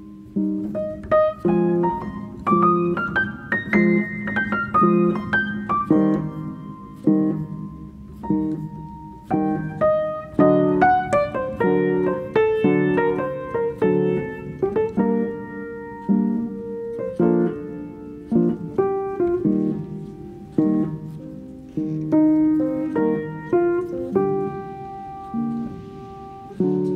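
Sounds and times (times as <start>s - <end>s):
slow piano music: 0.0s - 26.9s.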